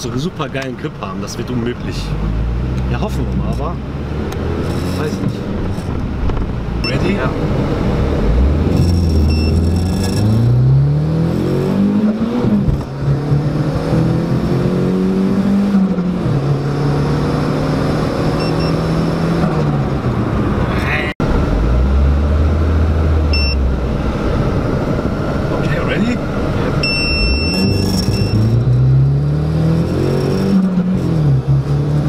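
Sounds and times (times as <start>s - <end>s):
car engine accelerating hard: 1.9s - 32.0s.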